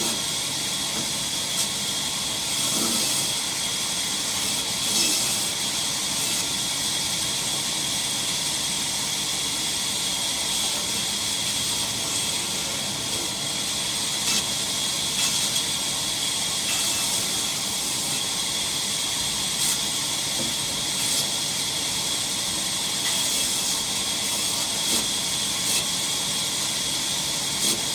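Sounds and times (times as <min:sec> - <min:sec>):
saw cutting timber whine: 0:00.0 - 0:27.9.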